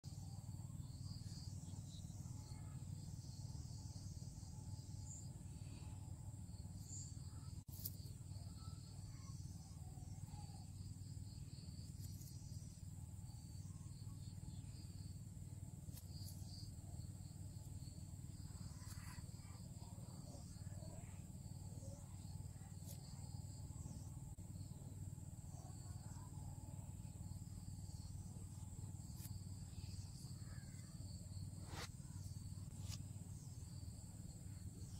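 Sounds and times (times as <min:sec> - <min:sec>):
steady low hum: 0:00.0 - 0:34.9
insects chirping trill: 0:00.1 - 0:34.9.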